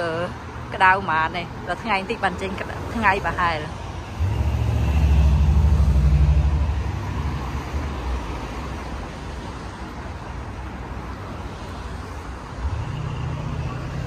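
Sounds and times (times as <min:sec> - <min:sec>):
street traffic noise: 0:00.0 - 0:14.0
vehicle engine rumble: 0:00.0 - 0:14.0.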